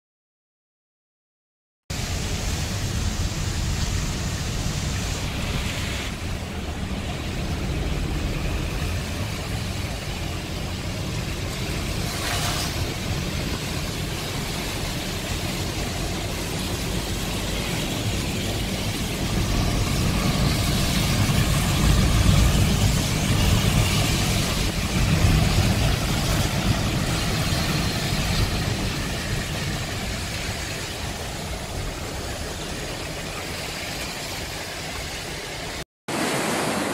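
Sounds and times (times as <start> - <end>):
choppy sea: 1.9 - 36.9
wind buffeting microphone: 2.1 - 35.5.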